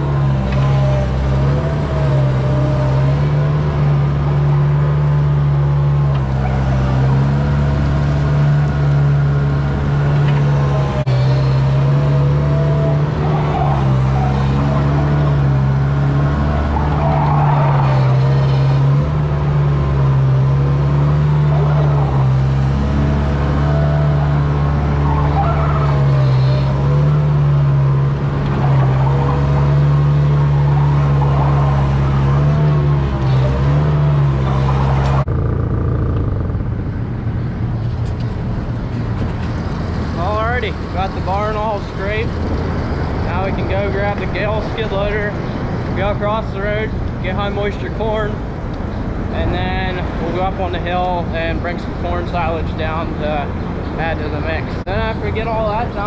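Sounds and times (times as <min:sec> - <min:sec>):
loader engine running under load: 0:00.0 - 0:56.0.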